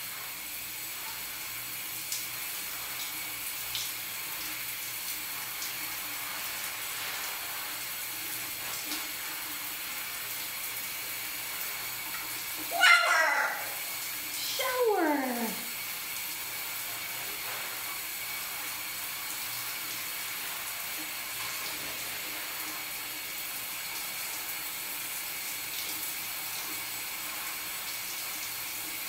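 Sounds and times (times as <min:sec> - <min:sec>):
shower spray hissing: 0:00.0 - 0:29.0.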